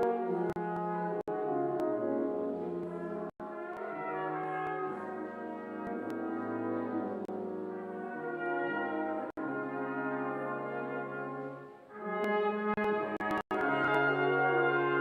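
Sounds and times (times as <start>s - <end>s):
brass quintet playing chords: 0.0s - 15.0s.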